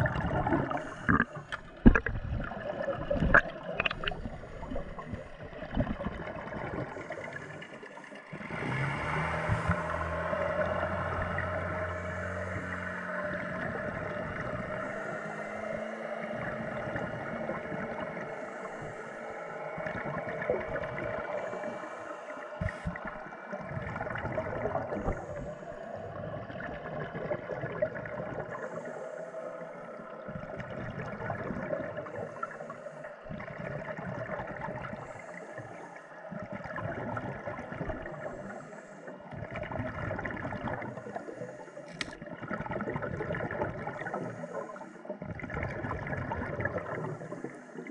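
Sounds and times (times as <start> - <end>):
muffled underwater hum: 0.0 - 47.9
regulator bubbles underwater: 0.0 - 47.9.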